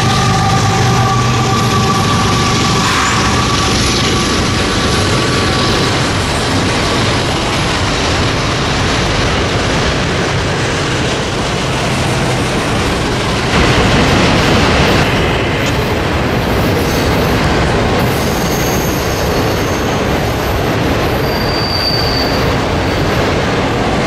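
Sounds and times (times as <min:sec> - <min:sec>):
freight cars rumbling on rails: 0:00.0 - 0:24.0
locomotive whine: 0:00.0 - 0:24.0.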